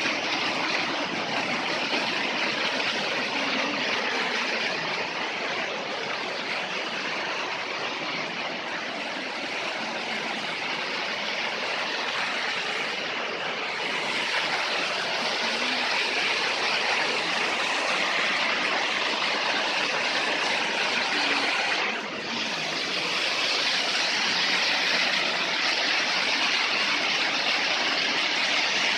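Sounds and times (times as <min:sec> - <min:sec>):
water rushing over rocks: 0:00.0 - 0:28.9.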